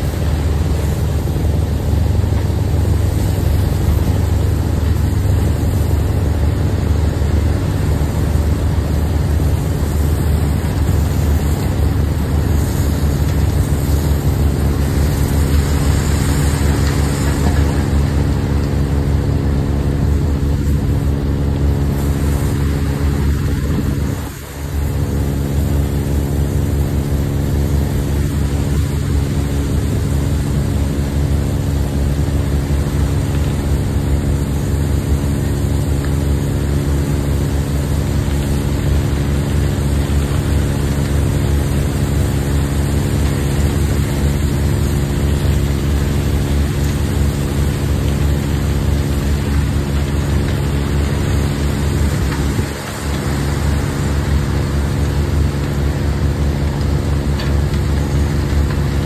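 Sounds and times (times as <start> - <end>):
heavy diesel engine humming: 0.0 - 59.0.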